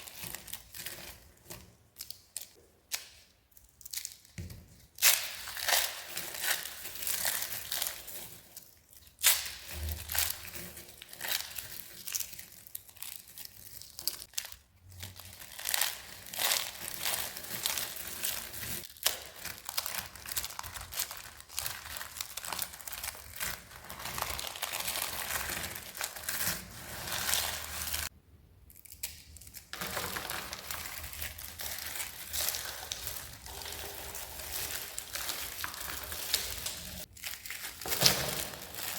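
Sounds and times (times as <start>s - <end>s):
dry soap crunching: 0.0s - 28.1s, 28.8s - 38.9s.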